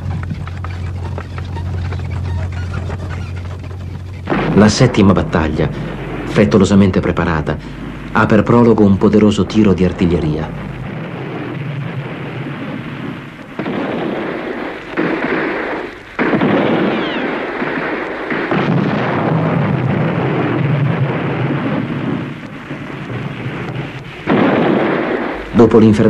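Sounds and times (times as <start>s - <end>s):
shell bursts and gunfire: 0.0s - 26.0s.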